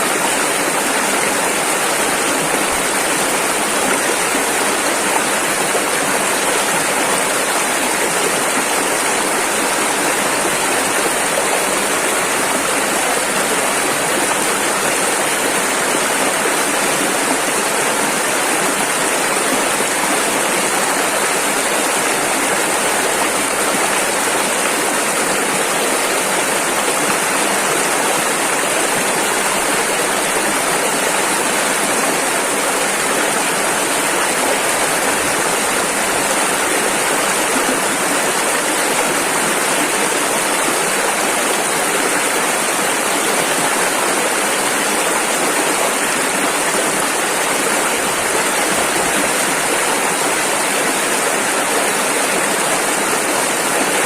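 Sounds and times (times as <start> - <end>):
fast-flowing river rapids: 0.0 - 54.0.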